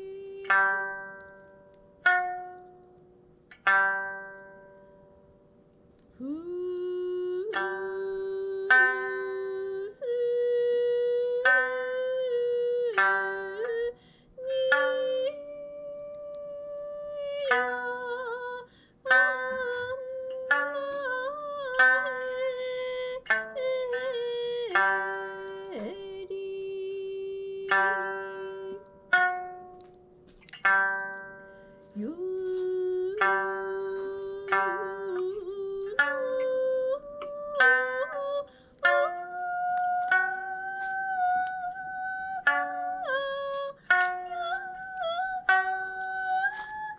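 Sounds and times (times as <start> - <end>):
ocarina melody: 0.0 - 46.9
plucked string notes: 0.0 - 46.9.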